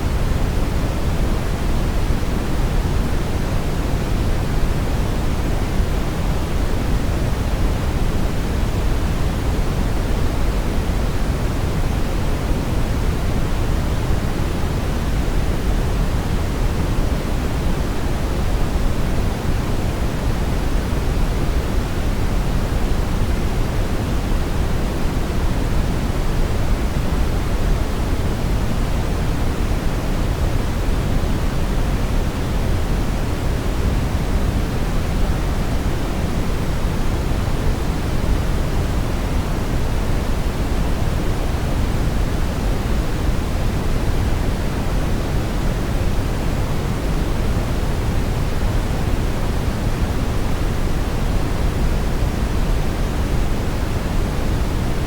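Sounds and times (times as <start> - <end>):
steady brown noise: 0.0 - 55.0.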